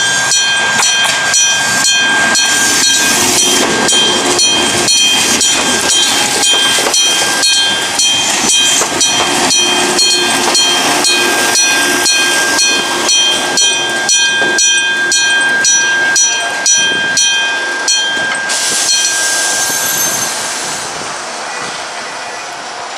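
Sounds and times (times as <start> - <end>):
level crossing warning bell: 0.0 - 20.5
train running over crossing: 0.0 - 22.9.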